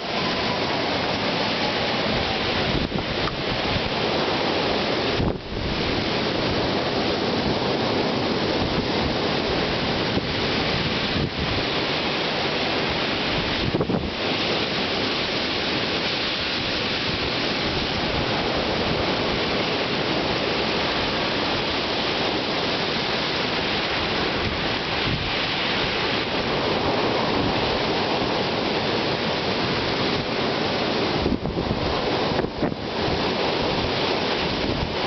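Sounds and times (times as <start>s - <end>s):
wind-driven rain hissing: 0.0s - 35.0s.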